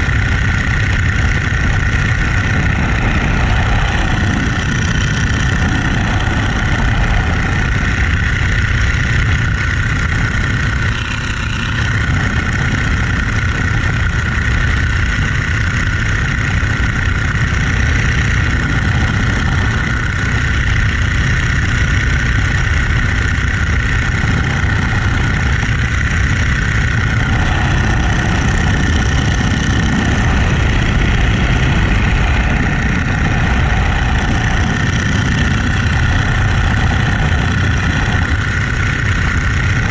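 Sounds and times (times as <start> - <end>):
biplane engine and propeller: 0.0 - 39.9.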